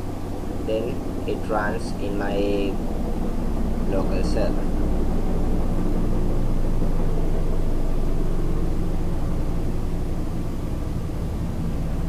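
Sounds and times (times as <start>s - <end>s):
faint hum: 0.0s - 12.0s
low rumbling noise: 0.0s - 12.0s.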